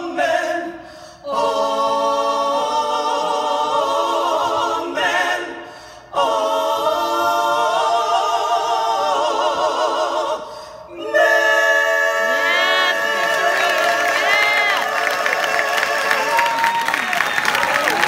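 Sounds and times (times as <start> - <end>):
women singing in close harmony: 0.0 - 16.6.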